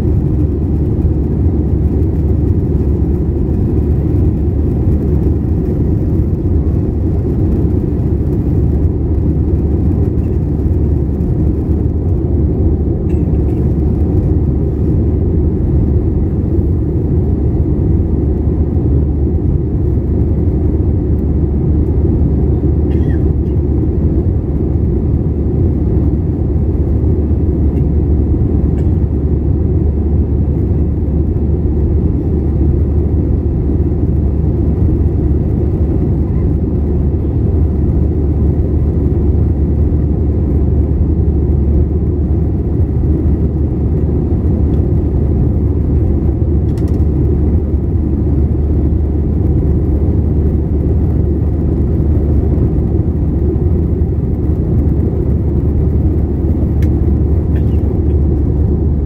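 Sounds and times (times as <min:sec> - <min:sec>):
airplane cabin roar: 0:00.0 - 0:59.0.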